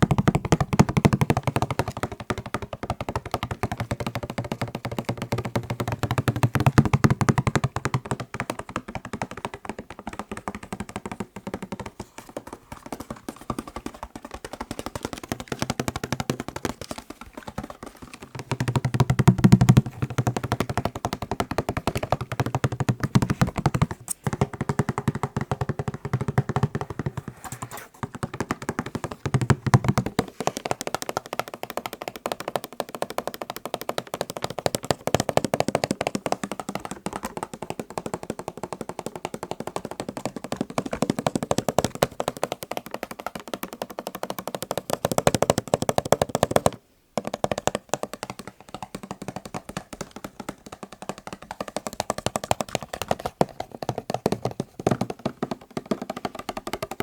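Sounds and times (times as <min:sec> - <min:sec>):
fast tapping on macarons: 0:00.0 - 0:57.0.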